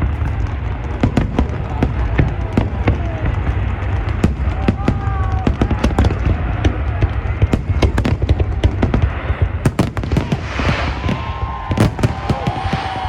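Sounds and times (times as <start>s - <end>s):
fireworks bangs: 0.0s - 13.0s
fireworks hissing crackle: 0.0s - 13.0s.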